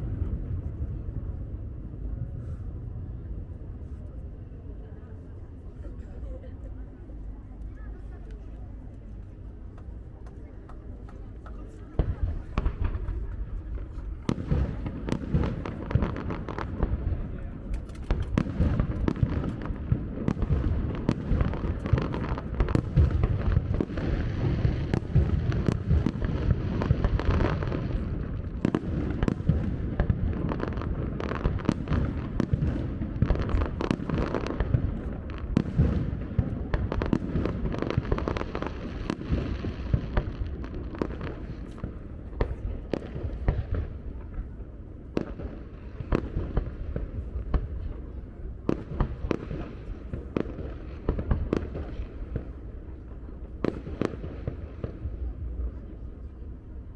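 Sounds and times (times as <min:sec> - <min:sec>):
fireworks booms and crackles: 0:00.0 - 0:04.4, 0:08.8 - 0:56.9.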